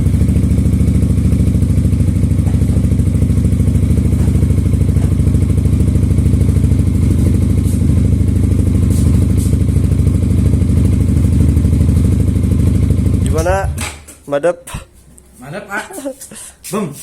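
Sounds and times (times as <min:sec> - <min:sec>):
scooter engine idling: 0:00.0 - 0:13.8.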